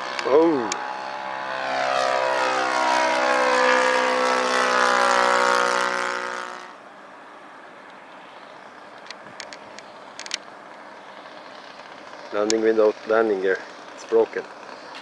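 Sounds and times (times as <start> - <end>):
model plane engine droning past: 0.0 - 15.0.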